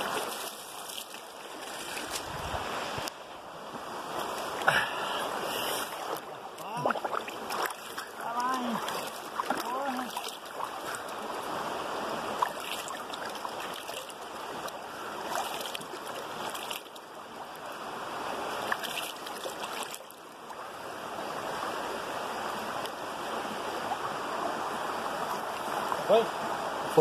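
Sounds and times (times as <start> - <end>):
stream water rushing and babbling: 0.0 - 27.0.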